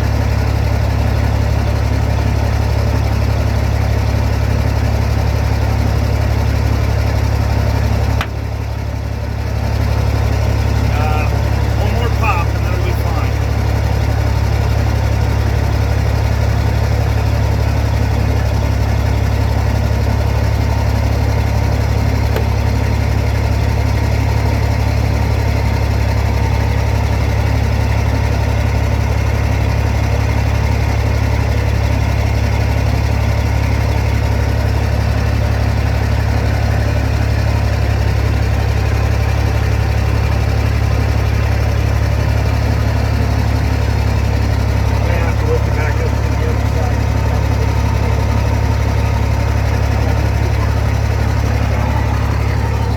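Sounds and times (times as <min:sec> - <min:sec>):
diesel truck engine idling: 0:00.0 - 0:52.9.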